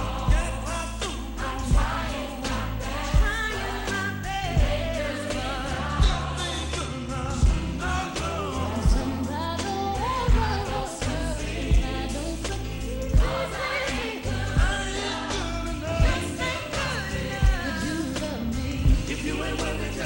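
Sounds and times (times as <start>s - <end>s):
deep drum beat: 0.0s - 20.0s
gospel singing: 0.0s - 20.0s
sustained bass line: 0.0s - 20.0s.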